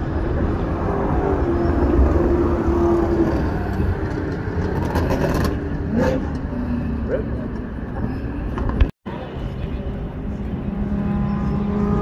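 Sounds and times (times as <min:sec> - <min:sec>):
race cars running laps: 0:00.0 - 0:12.0.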